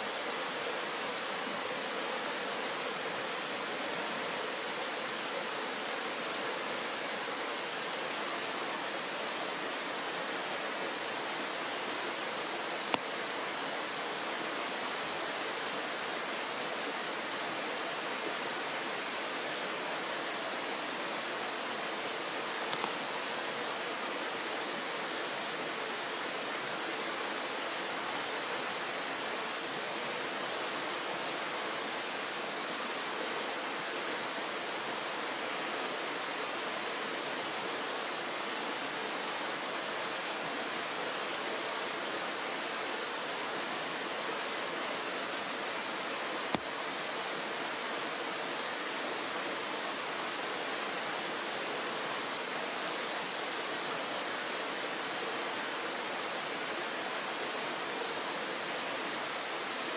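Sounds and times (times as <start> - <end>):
stream rushing over stones: 0.0 - 59.9.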